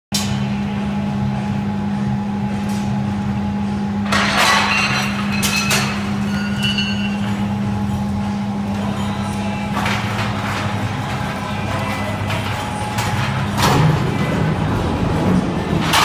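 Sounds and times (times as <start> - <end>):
industrial machinery hum: 0.1 - 16.0.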